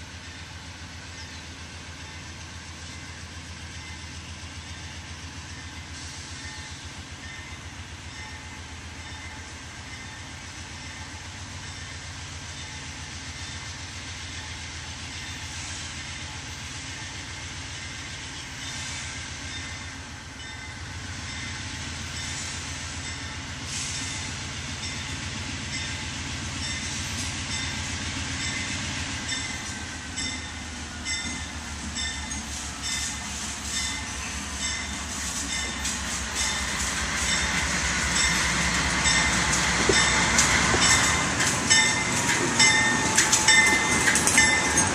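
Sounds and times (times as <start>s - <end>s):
diesel locomotive engine throbbing: 0.0s - 44.9s.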